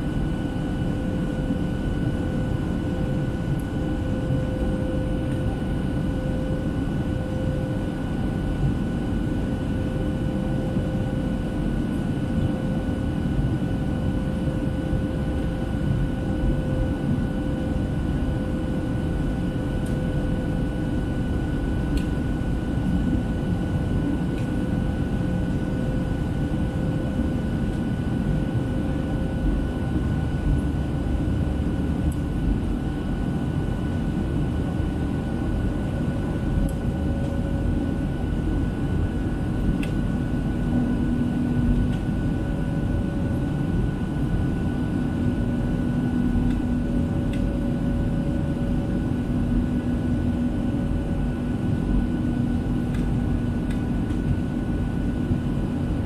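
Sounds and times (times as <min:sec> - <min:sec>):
airplane cabin rumble: 0:00.0 - 0:56.0
jet engine fan whine: 0:00.0 - 0:56.0.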